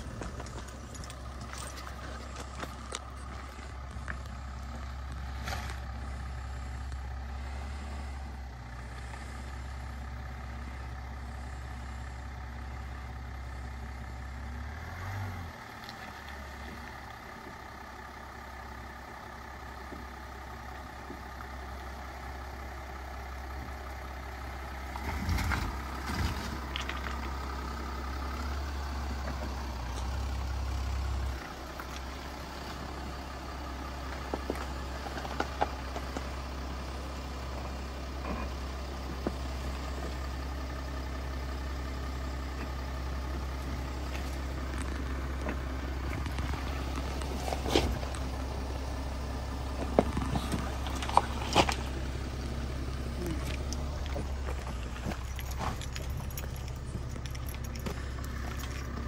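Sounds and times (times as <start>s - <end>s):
car engine running at low speed: 0.0s - 59.0s
tyres on wet gravel: 0.0s - 59.0s.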